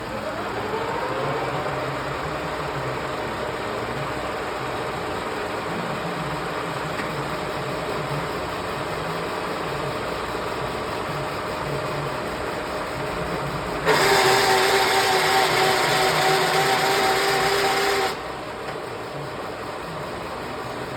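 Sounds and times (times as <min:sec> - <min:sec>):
milling machine whine: 0:00.0 - 0:20.9.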